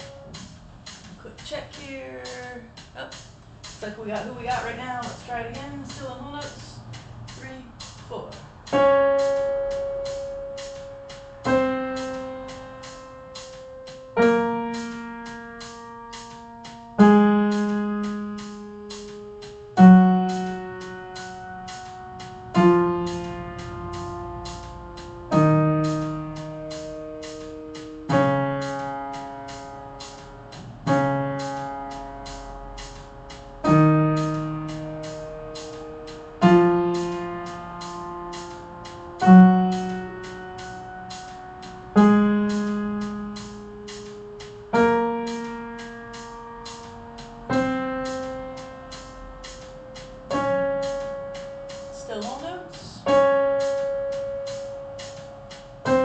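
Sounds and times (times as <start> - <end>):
metronome clicking: 0.0 - 56.0
slow piano chords: 0.0 - 56.0.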